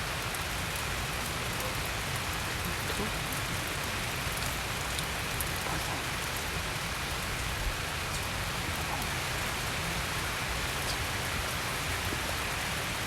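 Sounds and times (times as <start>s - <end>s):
steady rain: 0.0s - 13.0s
raindrops ticking: 0.1s - 13.0s.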